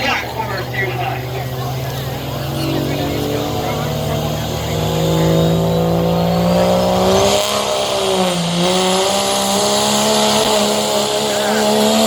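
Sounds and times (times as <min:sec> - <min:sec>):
diesel truck engine revving hard: 0:00.0 - 0:12.0.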